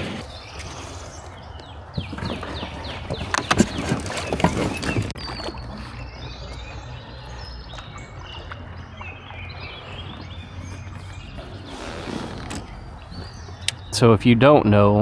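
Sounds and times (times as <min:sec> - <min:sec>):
birds chirping: 0:00.0 - 0:15.0
river low rumble: 0:00.0 - 0:15.0.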